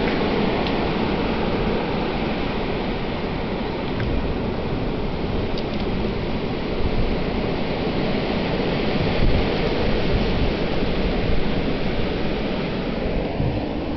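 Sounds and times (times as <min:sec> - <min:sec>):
blizzard wind blowing hard: 0:00.0 - 0:13.9.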